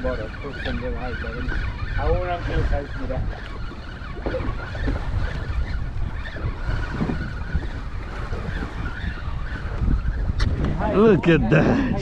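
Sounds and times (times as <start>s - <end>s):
waves lapping at hull: 0.0s - 12.0s
wind buffeting microphone: 0.0s - 12.0s.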